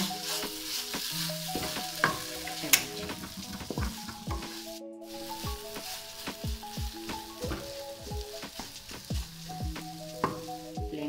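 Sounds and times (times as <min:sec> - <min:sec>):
spatula scraping wok: 0:00.0 - 0:10.9
pan sizzling: 0:00.0 - 0:11.0.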